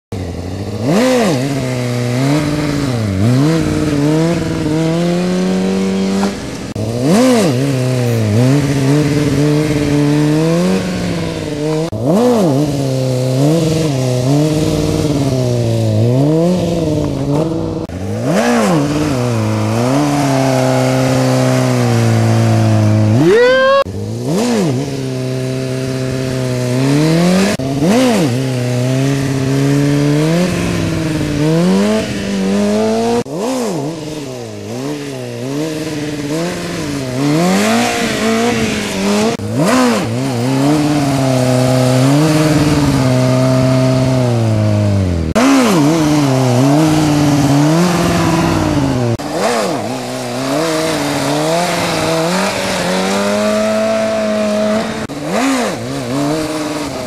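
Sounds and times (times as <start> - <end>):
motorcycle engine revving: 0.1 - 57.0.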